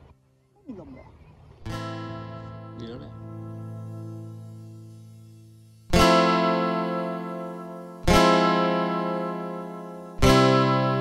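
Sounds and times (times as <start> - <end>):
acoustic guitar chords strummed: 1.5 - 11.0.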